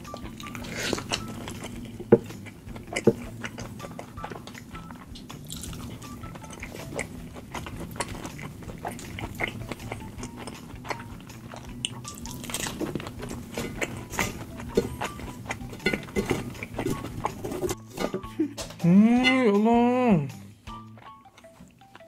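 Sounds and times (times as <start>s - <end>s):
wet chewing and slurping: 0.0s - 17.9s
quiet background music: 0.0s - 22.0s.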